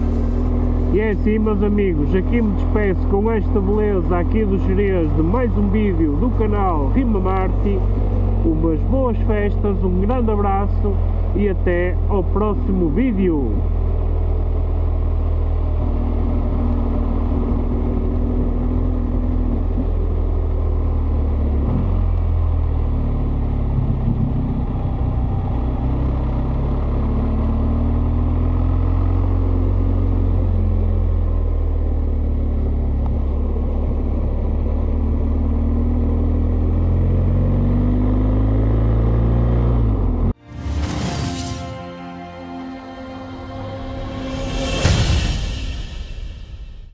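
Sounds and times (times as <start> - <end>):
motorcycle engine running: 0.0 - 40.4.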